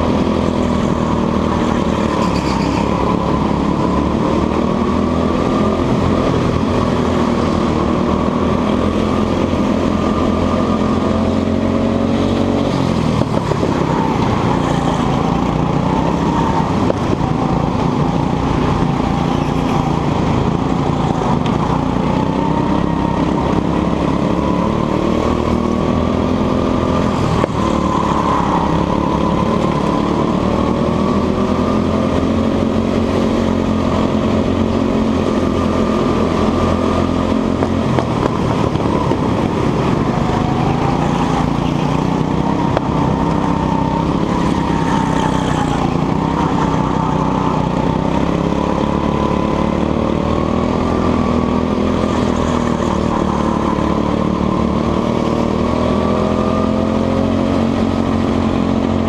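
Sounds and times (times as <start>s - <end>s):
go-kart engine at full throttle: 0.0s - 59.0s.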